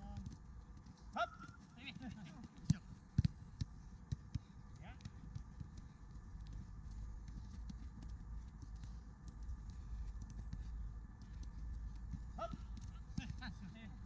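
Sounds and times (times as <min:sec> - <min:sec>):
footballs being kicked: 0:00.0 - 0:14.0
footsteps on a pitch: 0:00.0 - 0:14.0.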